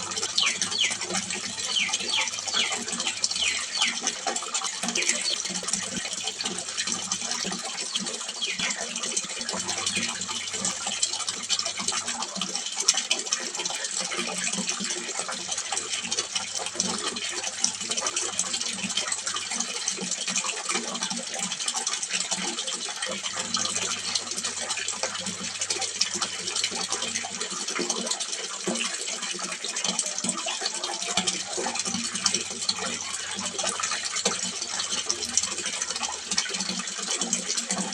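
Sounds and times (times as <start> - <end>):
water splashing into pond: 0.0 - 37.9.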